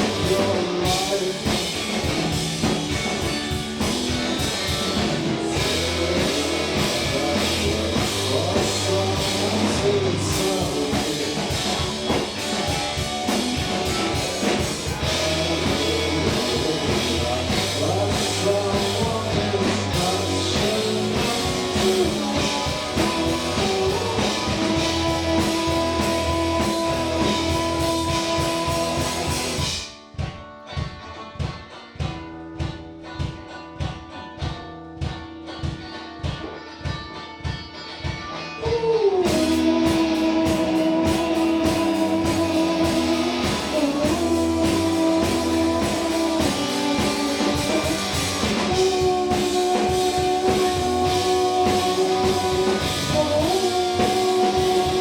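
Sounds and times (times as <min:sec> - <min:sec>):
indie rock band playing: 0:00.0 - 0:55.0.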